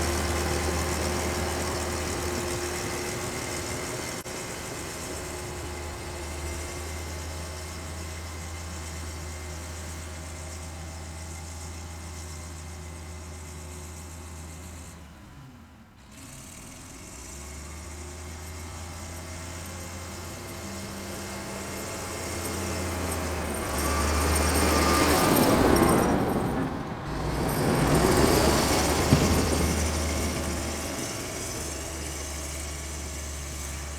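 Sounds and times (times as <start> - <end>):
tractor engine running: 0.0 - 15.4, 16.0 - 33.9.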